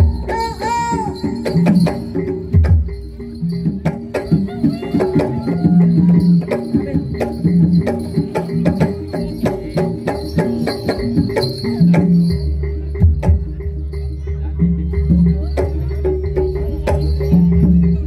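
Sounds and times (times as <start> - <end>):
ringing metallophone tones: 0.0 - 18.0.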